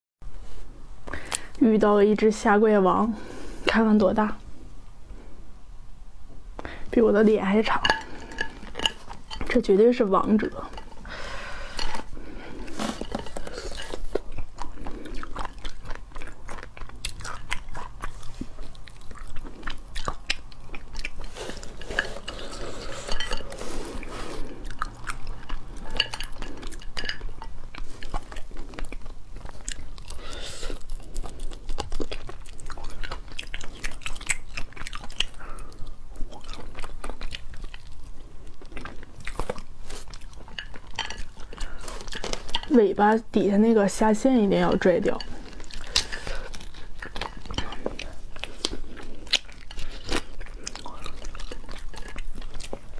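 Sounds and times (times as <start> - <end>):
chewing with crunches: 7.2 - 43.2, 44.0 - 52.9.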